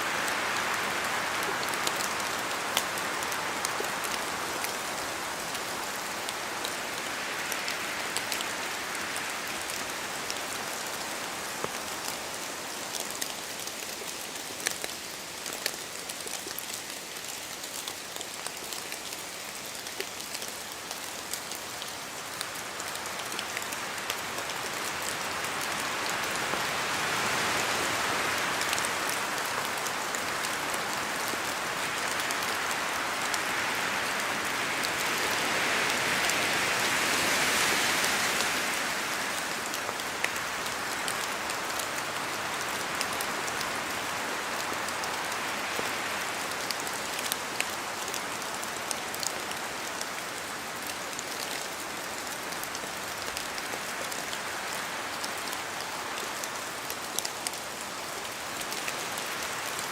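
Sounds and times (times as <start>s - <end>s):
steady rain in forest: 0.0s - 59.9s
wind through trees: 0.0s - 59.9s.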